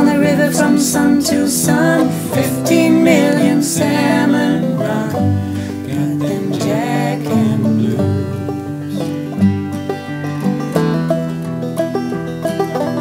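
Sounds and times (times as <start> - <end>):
acoustic guitars and banjo playing: 0.0 - 13.0.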